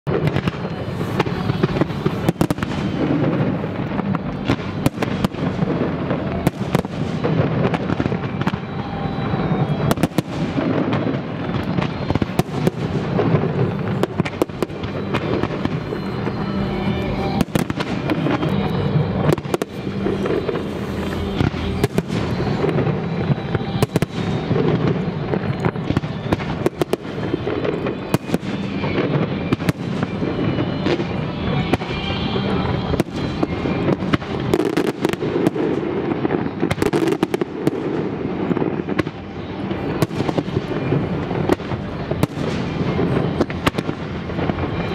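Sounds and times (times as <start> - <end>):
fireworks bangs and crackles: 0.0 - 44.9
music over sound system: 0.1 - 44.9.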